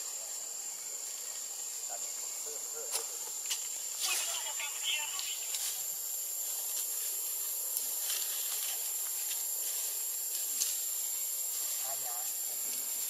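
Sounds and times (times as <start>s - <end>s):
insects shrill drone: 0.0s - 13.0s.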